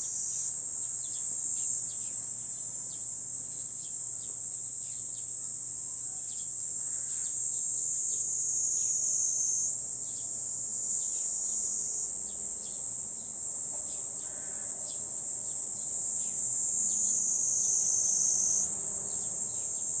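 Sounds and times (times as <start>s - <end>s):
insects buzzing high-pitched: 0.0s - 20.0s.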